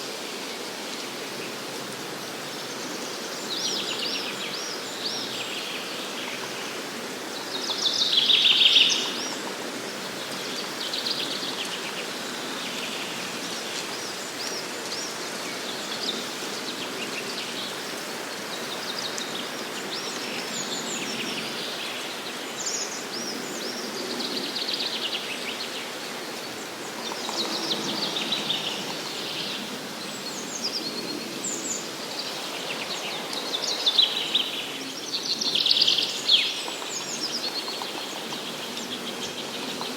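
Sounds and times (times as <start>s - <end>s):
steady background hiss: 0.0s - 39.9s
songbirds singing: 0.4s - 39.9s.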